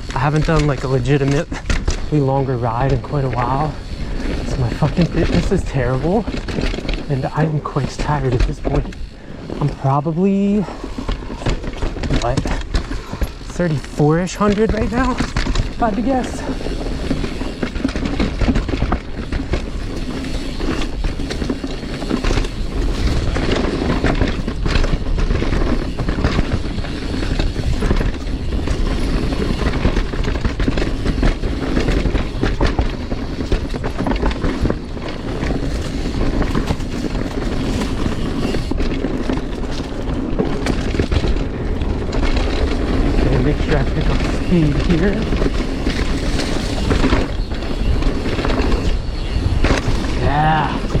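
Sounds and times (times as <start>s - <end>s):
bike rattling: 0.0s - 51.0s
bike tyres on dirt trail: 0.0s - 51.0s.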